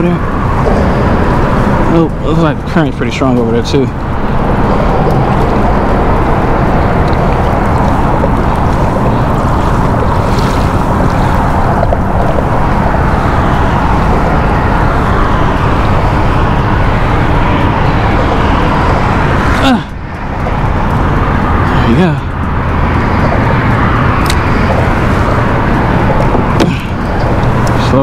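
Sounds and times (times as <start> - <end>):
water washing along kayak hull: 0.0 - 28.0
wind noise on microphone: 0.0 - 28.0.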